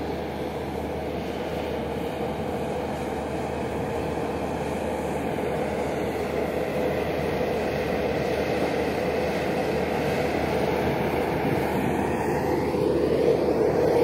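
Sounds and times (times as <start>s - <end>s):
diesel engine drone: 0.0s - 14.0s
motor grader running: 0.0s - 14.0s.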